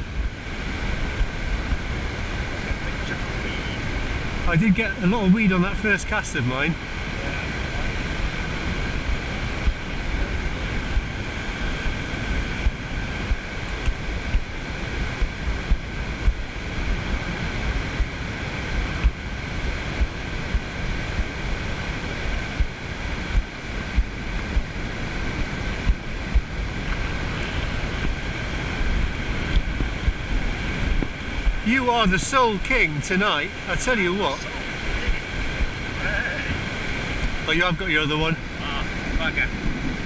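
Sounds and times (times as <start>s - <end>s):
wind buffeting microphone: 0.0s - 5.7s, 6.4s - 40.0s
small waves breaking: 0.0s - 40.0s.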